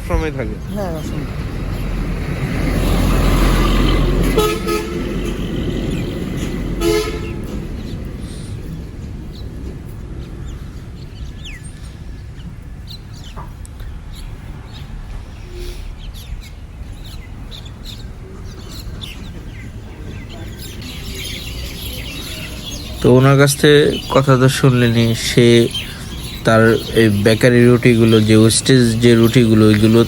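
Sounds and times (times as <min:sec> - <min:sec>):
birds calling and chattering: 0:00.0 - 0:30.0.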